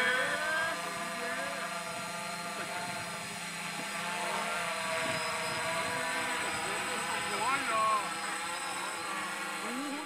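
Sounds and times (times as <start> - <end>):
drone propellers buzzing: 0.0 - 10.0.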